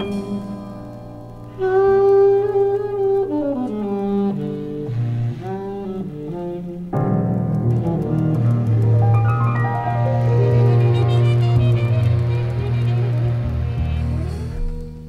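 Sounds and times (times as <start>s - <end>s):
double bass: 0.0s - 15.0s
jazz quintet with piano: 0.0s - 15.0s
tenor saxophone: 1.4s - 15.0s.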